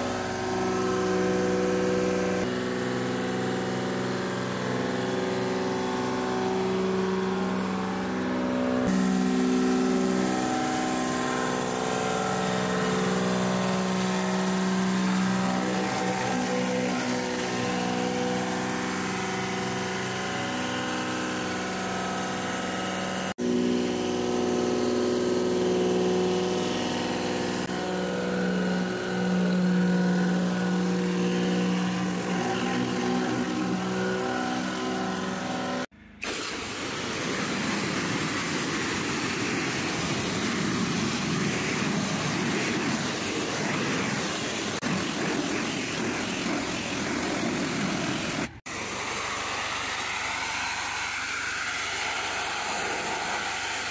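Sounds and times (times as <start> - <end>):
pressure washer engine running: 0.0 - 53.9
surface cleaner on wet decking: 0.0 - 53.9
hissing water jet: 8.8 - 53.9.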